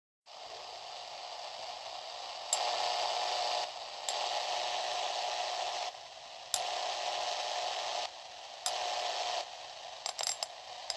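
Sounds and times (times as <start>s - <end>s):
radio static hissing: 0.3s - 10.9s.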